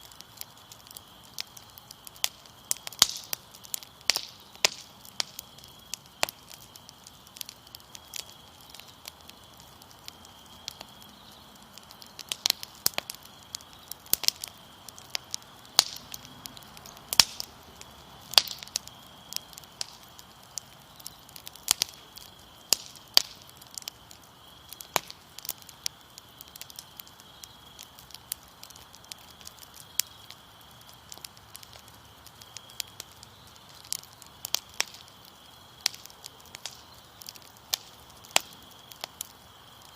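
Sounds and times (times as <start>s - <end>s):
crickets chirping: 0.0s - 39.9s
fire crackling and popping: 0.0s - 39.9s.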